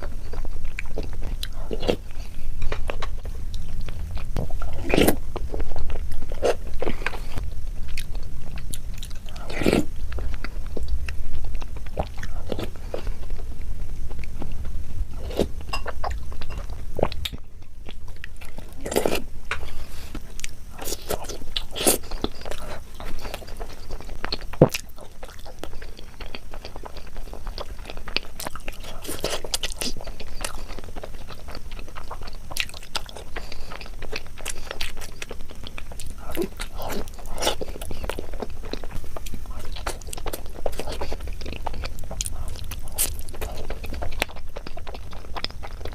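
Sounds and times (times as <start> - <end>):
person chewing sweets: 0.0 - 45.9.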